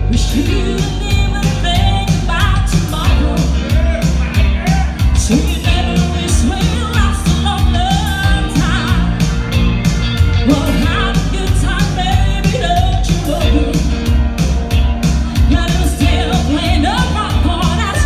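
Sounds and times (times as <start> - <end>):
live rock and roll band: 0.0 - 18.0.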